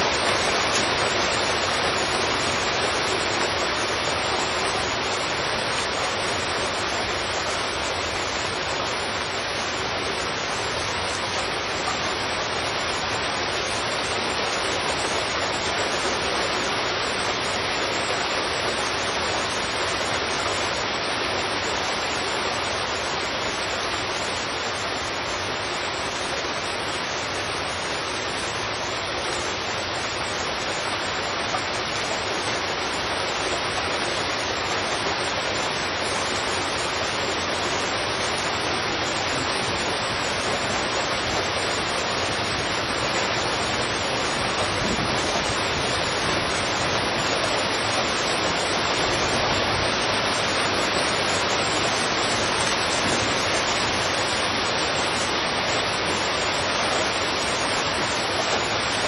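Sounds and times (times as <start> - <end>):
heavy rain on a street: 0.0 - 59.0.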